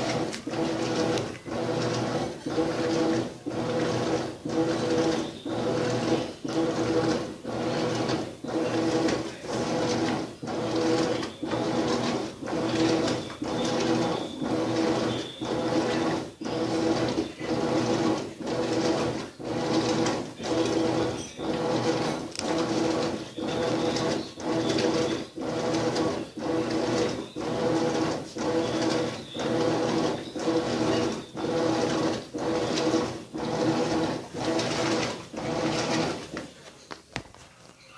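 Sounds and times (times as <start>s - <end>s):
washing machine whirring: 0.0s - 37.9s.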